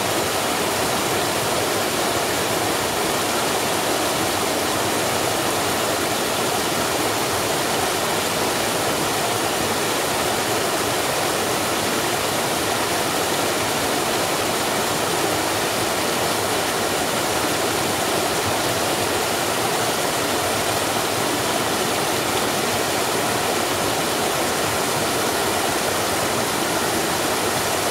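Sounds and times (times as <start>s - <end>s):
small waterfall rushing: 0.0s - 27.9s.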